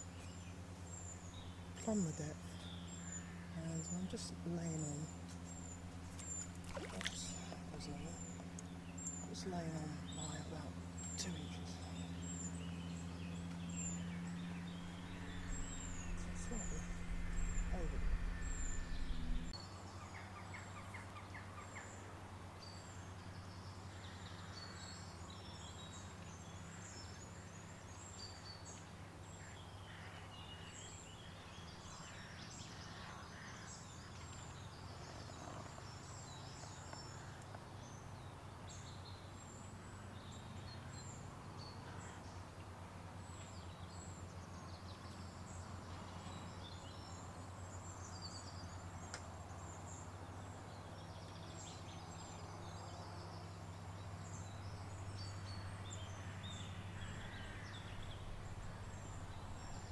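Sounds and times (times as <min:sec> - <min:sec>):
faint low hum: 0:00.0 - 0:59.9
small birds chirping: 0:00.0 - 0:59.9.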